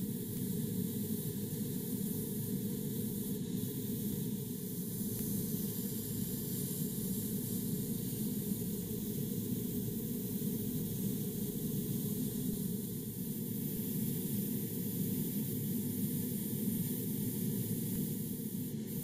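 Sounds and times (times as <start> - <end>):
airbrush hissing: 0.9 - 19.0.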